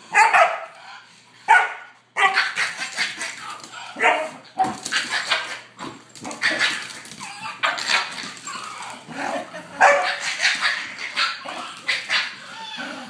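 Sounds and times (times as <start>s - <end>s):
dogs barking: 0.0s - 0.8s, 1.5s - 8.8s, 9.4s - 12.8s.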